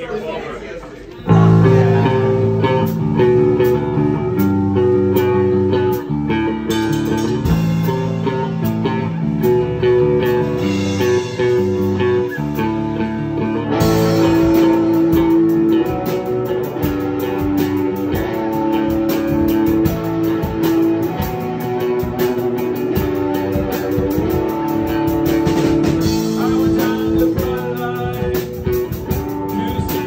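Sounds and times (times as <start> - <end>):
electric guitar: 1.2 - 30.0
electric bass: 1.3 - 30.0.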